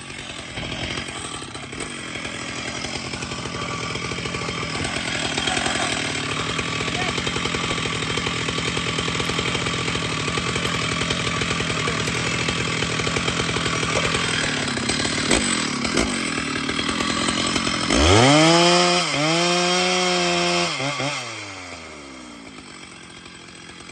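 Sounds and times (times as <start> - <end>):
chainsaw revving: 0.0 - 23.9.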